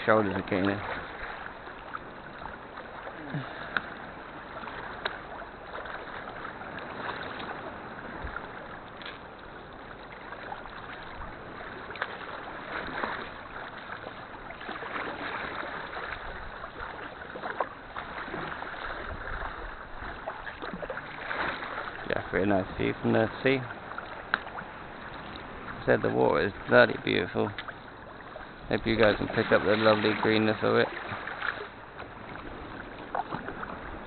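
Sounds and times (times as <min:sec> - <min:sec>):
paddle splashing in water: 0:00.0 - 0:34.0
water running off paddle: 0:00.0 - 0:34.0.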